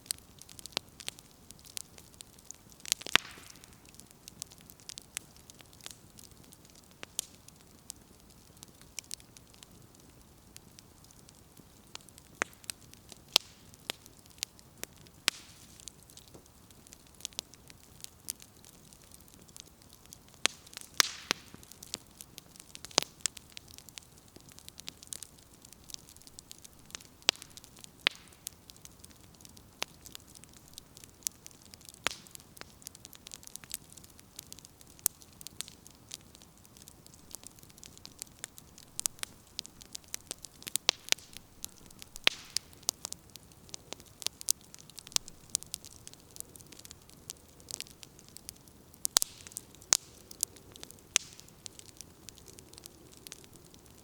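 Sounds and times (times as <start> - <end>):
campfire crackling: 0.0 - 54.0
soft fire hiss: 0.0 - 54.0.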